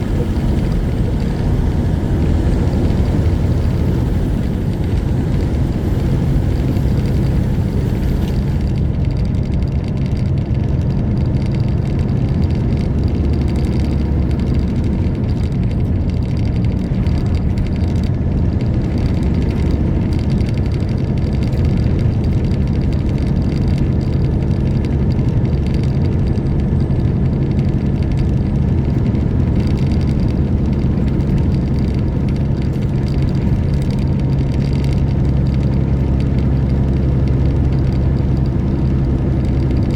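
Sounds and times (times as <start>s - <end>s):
road noise: 0.0s - 39.9s
truck diesel engine droning: 0.0s - 39.9s.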